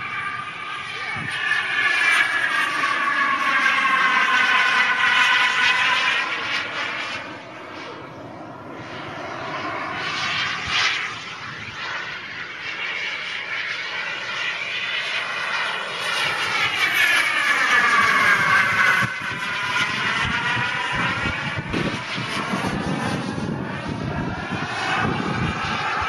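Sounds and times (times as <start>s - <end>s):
model jet turbine whining past: 0.0s - 26.0s.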